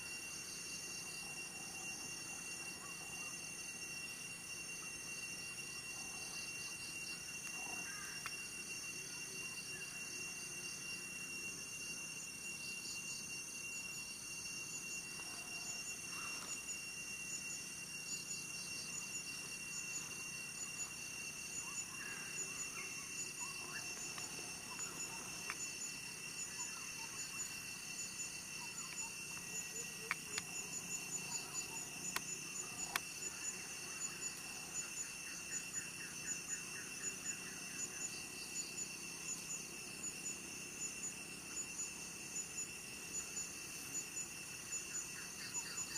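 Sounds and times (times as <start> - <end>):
insect chorus with high trills: 0.0 - 45.9
thin steady whine: 0.0 - 45.9.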